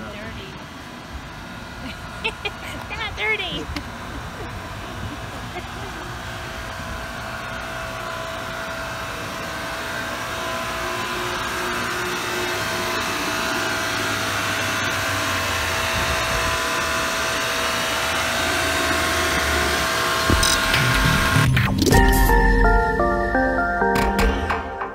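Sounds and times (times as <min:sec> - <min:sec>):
pressure washer motor humming: 0:00.0 - 0:23.9.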